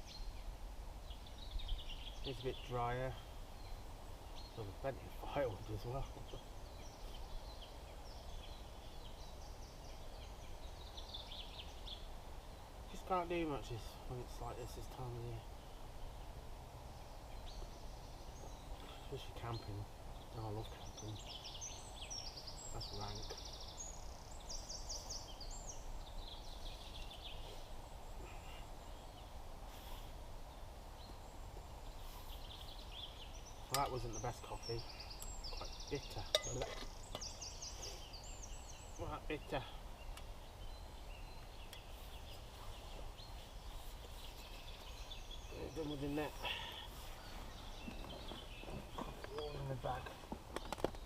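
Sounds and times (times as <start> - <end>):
birds chirping faintly: 0.0 - 51.0
low background hiss: 0.0 - 51.0.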